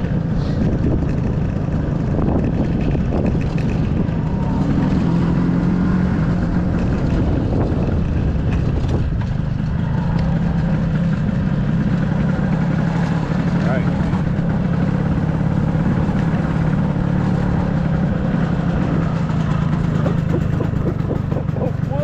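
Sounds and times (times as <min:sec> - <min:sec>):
scooter engine droning: 0:00.0 - 0:22.0.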